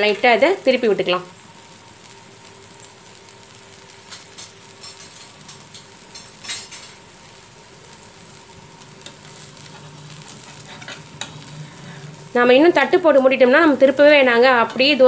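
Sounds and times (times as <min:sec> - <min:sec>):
batter sizzling in oil: 0:00.0 - 0:15.0.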